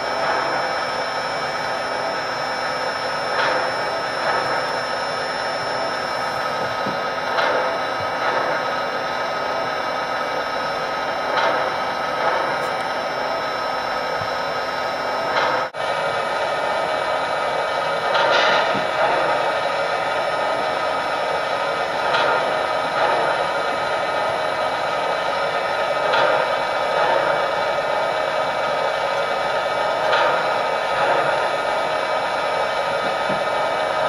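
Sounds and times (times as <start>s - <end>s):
fan whirring: 0.0s - 34.0s.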